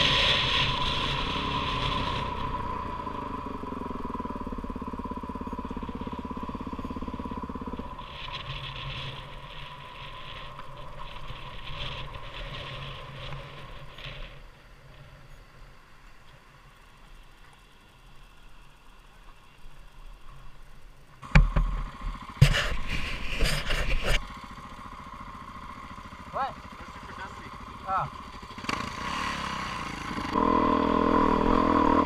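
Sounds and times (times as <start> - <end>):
dirt bike engine chugging: 0.0 - 16.0, 17.6 - 32.0.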